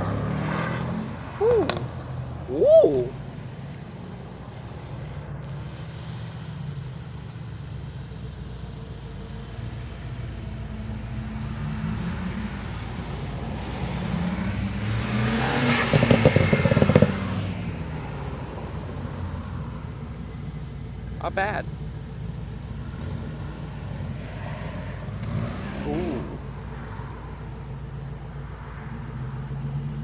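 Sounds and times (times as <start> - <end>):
car passing with loud exhaust: 0.0 - 30.0
traffic hum: 0.0 - 30.0.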